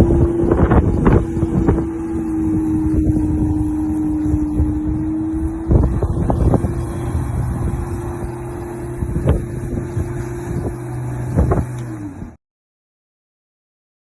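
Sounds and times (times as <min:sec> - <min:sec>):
electric lawnmower motor hum: 0:00.0 - 0:12.4.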